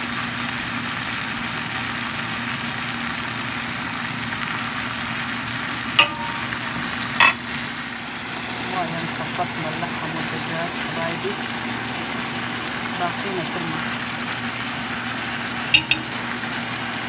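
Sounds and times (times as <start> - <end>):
food sizzling in fat: 0.0 - 17.0.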